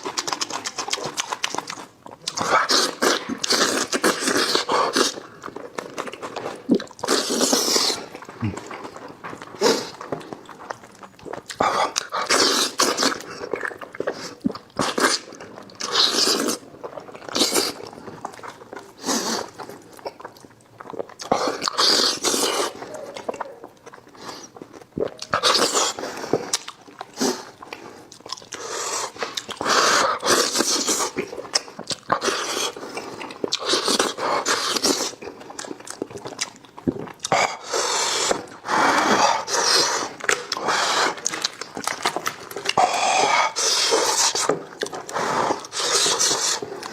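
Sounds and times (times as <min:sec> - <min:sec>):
person chewing and slurping: 0:00.0 - 0:46.9.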